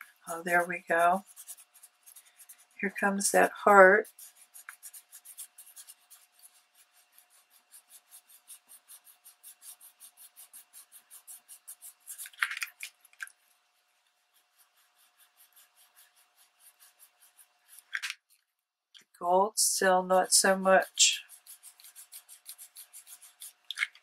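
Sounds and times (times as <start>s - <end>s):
cloth rubbing on damp paper: 0.0s - 17.9s, 21.0s - 23.7s.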